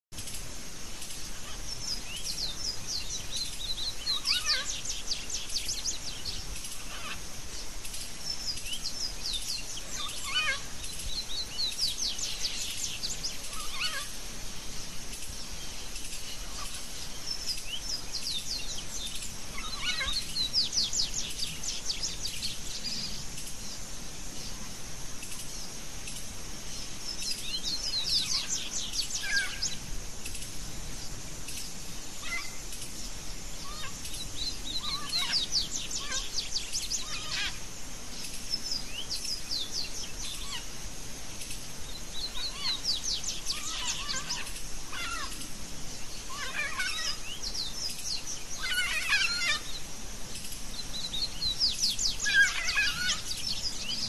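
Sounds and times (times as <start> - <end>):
songbird singing: 0.1 - 54.0
steady high hiss: 0.1 - 54.0.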